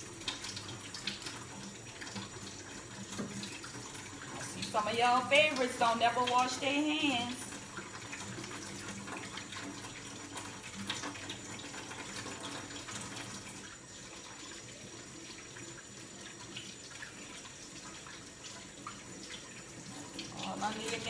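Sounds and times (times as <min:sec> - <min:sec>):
faucet running into a metal sink: 0:00.0 - 0:21.0.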